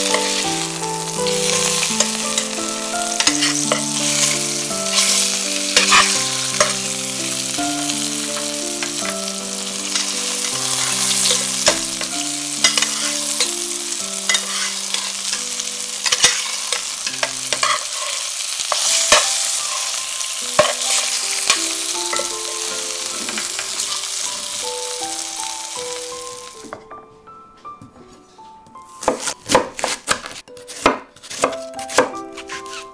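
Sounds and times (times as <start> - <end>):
chicken sizzling in oil: 0.0 - 26.6.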